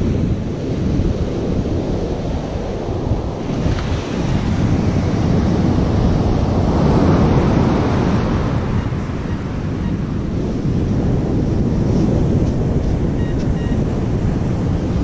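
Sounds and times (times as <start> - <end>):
heavy ocean surf: 0.0 - 15.0
wind rumbling on microphone: 0.0 - 15.0.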